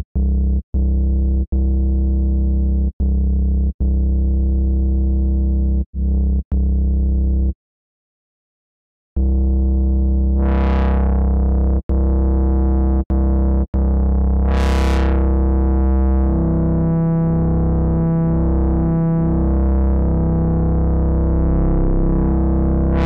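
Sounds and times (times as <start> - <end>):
low synth bass tone: 0.0 - 7.6, 9.2 - 23.0.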